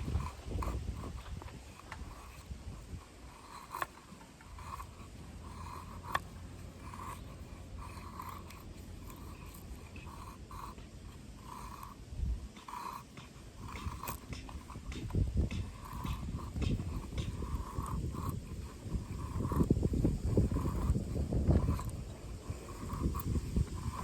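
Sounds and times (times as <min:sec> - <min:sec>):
blade cutting wood: 0:00.0 - 0:24.0.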